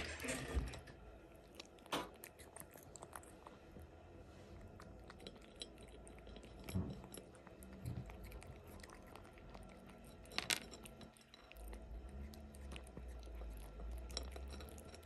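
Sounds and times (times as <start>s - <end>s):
cat crunching dry kibble: 1.0s - 15.0s.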